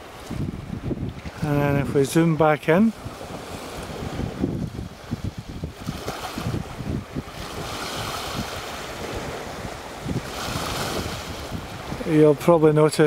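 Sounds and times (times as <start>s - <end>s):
waves washing over rocks: 0.0s - 13.0s
wind rumbling on microphone: 0.0s - 13.0s.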